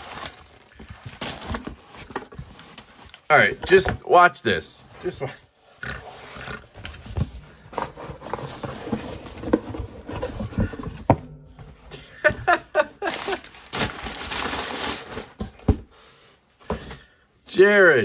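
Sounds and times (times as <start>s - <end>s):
cardboard and fabric rustling: 0.0s - 16.1s.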